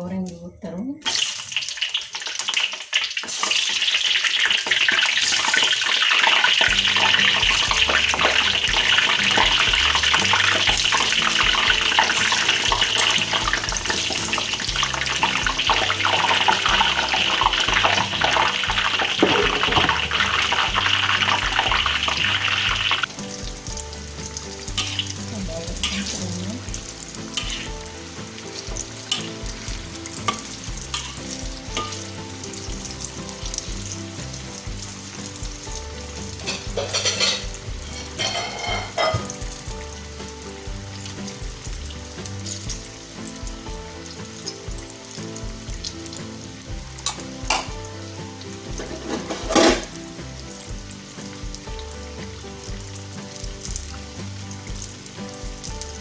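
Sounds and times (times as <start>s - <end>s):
eggplant deep-frying in oil: 0.0s - 56.0s.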